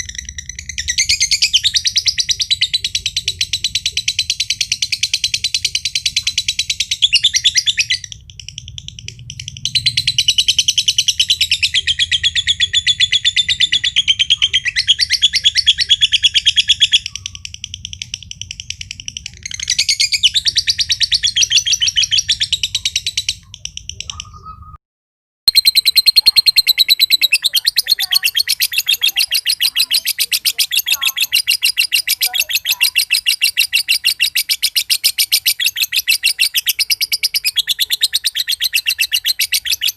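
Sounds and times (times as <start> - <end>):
bird chattering trill: 0.0 - 24.8, 25.5 - 39.9.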